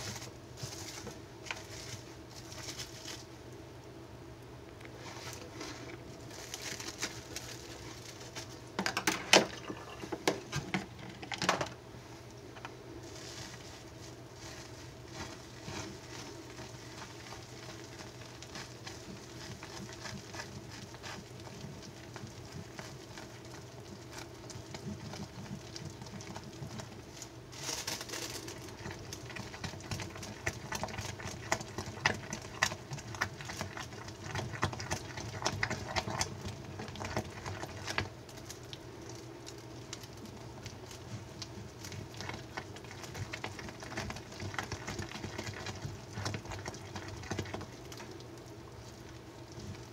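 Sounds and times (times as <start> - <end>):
plastic wrap crinkling: 0.0 - 3.4, 5.0 - 49.9.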